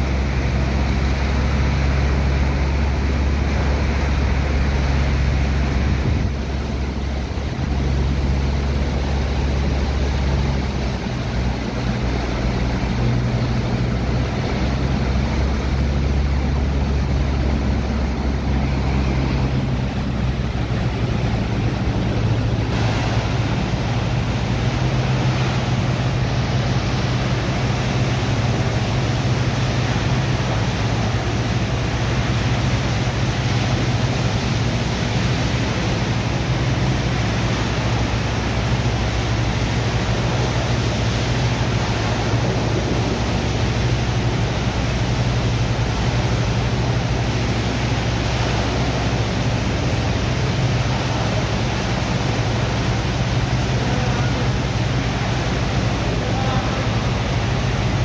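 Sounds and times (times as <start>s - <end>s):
pump engines droning: 0.0s - 58.0s
water jets hissing and splashing: 0.0s - 58.0s.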